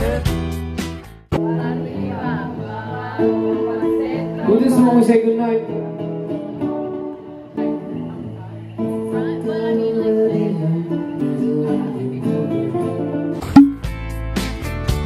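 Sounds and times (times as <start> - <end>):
acoustic guitar music: 0.0 - 14.7.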